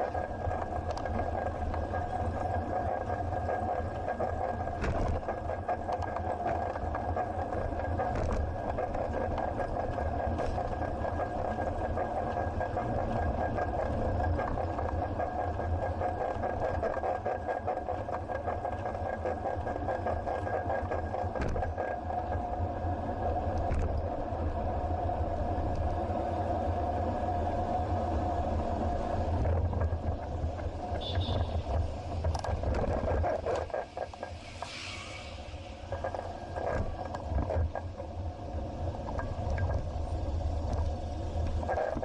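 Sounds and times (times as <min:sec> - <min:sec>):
bicycle hum and rattle: 0:00.0 - 0:42.0
motor vehicle engine: 0:00.0 - 0:42.0.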